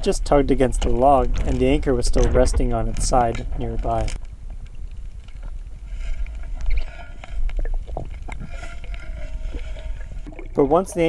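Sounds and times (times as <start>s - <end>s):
faint droning tone: 0.0s - 11.0s
muffled underwater rumble: 0.0s - 11.0s.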